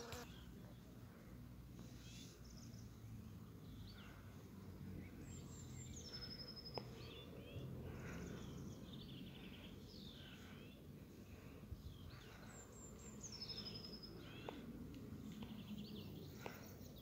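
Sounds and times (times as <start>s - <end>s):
small birds chirping: 0.0s - 17.0s
low outdoor rumble: 0.3s - 17.0s.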